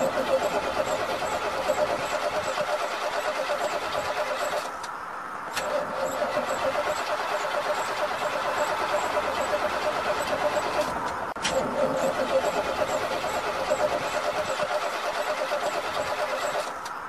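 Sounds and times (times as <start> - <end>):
starter motor cranking engine: 0.0 - 4.9, 5.5 - 17.0.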